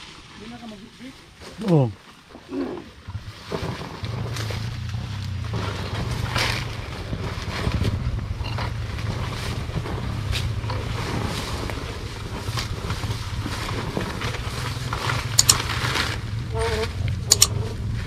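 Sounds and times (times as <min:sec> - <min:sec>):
wind on microphone: 0:02.9 - 0:18.0
motorcycle engine running: 0:03.0 - 0:18.0
bike clattering: 0:03.1 - 0:18.0.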